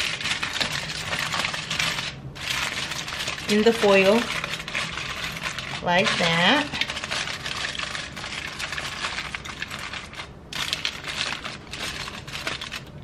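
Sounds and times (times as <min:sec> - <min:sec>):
aluminum foil crinkling: 0:00.0 - 0:13.0.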